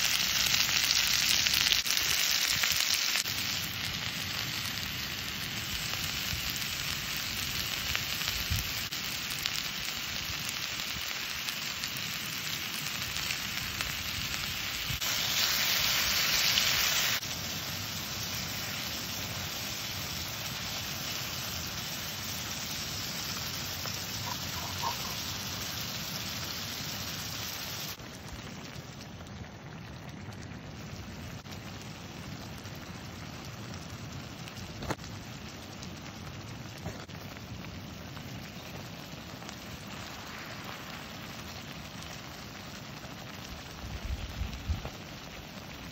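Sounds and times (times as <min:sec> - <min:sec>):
food sizzling in a skillet: 0:00.0 - 0:29.9, 0:30.5 - 0:45.9.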